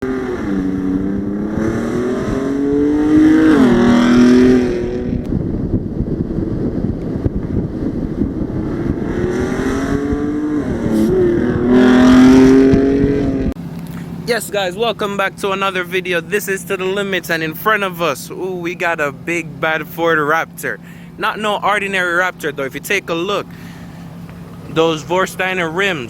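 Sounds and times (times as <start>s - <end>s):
truck engine accelerating hard: 0.0s - 26.0s.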